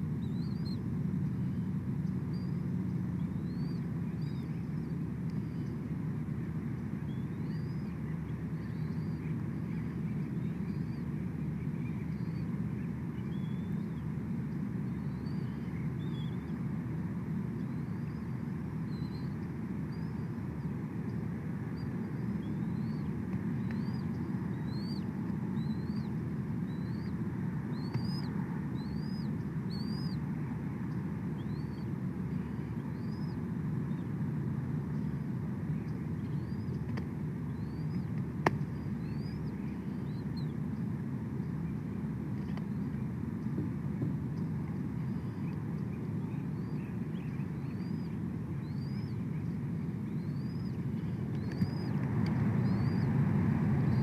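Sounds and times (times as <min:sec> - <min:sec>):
bird chirping: 0:00.2 - 0:05.9, 0:07.0 - 0:16.6, 0:17.6 - 0:30.2, 0:30.9 - 0:34.1, 0:37.5 - 0:40.9, 0:44.4 - 0:53.2.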